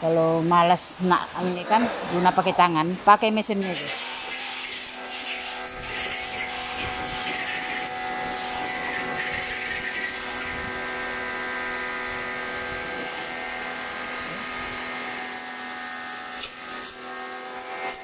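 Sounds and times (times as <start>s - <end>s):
pressure washer motor hum: 0.0s - 18.0s
water jet hissing on metal: 0.6s - 18.0s.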